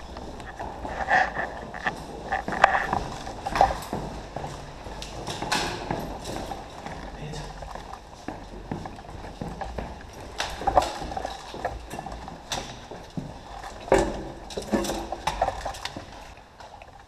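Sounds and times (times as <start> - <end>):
gear and rifle clattering: 0.0 - 17.0.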